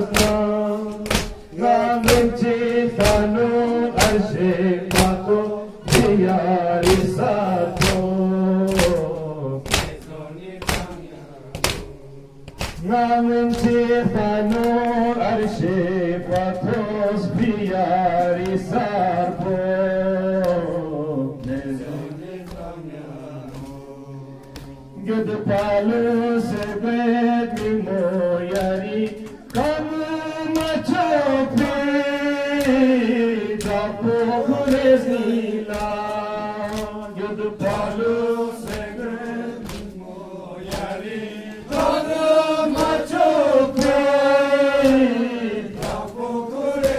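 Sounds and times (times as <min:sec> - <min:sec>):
men chanting in unison: 0:00.0 - 0:46.9.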